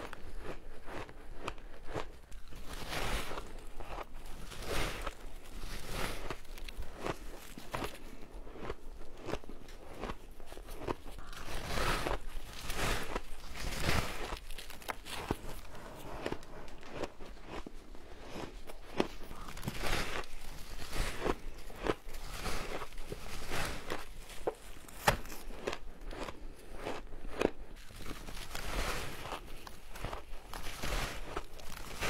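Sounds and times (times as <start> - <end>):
crunching shaved ice: 0.0 - 32.0.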